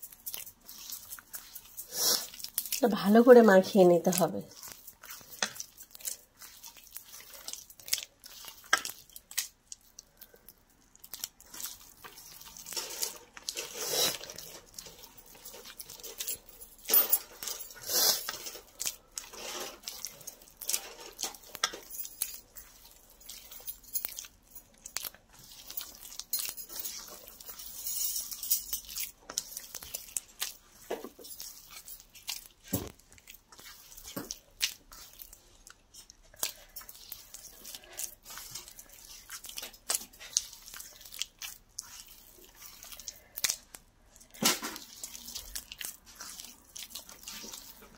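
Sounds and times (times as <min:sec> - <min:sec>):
hand squelching wet bread mash: 0:00.0 - 0:47.9.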